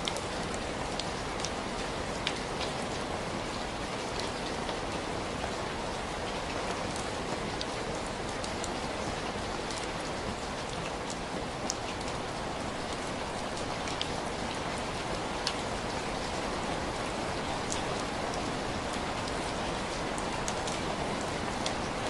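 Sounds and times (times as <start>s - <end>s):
sharp raindrops ticking: 0.0s - 22.0s
steady rain falling: 0.0s - 22.0s.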